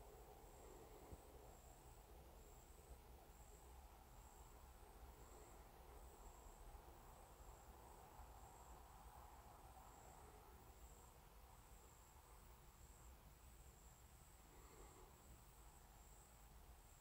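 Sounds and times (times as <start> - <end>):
faint insect trilling: 0.0 - 17.0.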